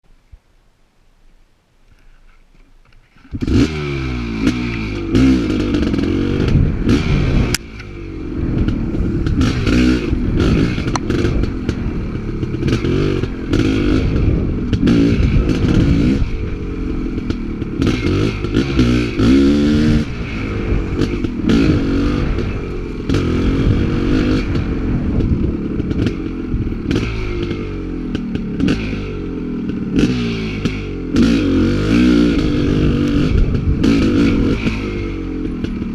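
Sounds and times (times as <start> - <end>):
dirt bike engine revving: 3.2 - 35.9.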